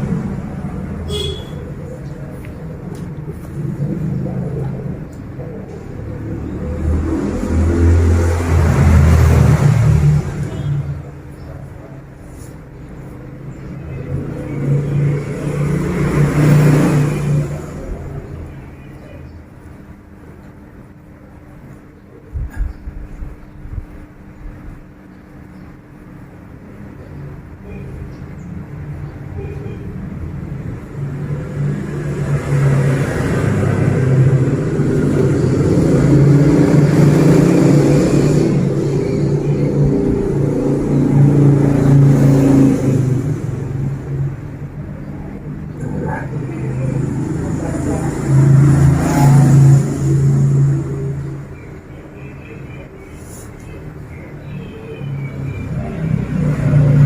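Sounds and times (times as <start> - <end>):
vehicle engine passing by: 0.0 - 18.7, 27.2 - 57.0.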